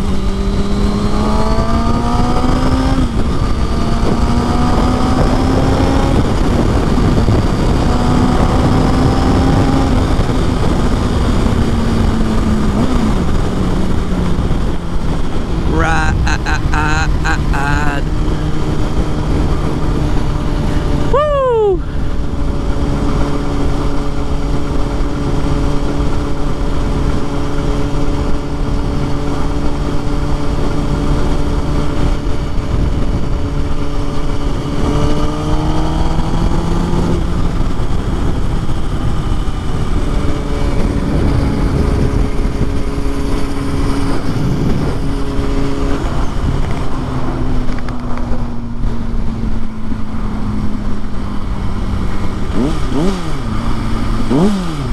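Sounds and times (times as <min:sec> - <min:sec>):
wind rush on microphone: 0:00.0 - 0:17.2, 0:18.0 - 0:54.9
motorcycle engine revving: 0:00.0 - 0:54.9.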